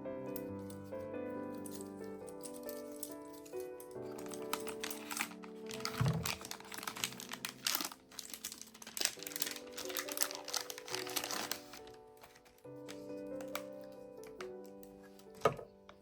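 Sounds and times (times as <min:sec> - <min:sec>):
soft piano music: 0:00.0 - 0:16.0
packaging crinkling: 0:02.4 - 0:15.8.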